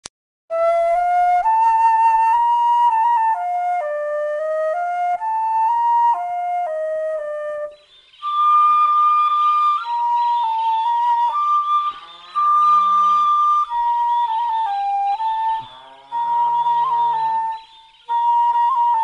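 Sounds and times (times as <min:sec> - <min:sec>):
solo flute melody: 0:00.5 - 0:19.0.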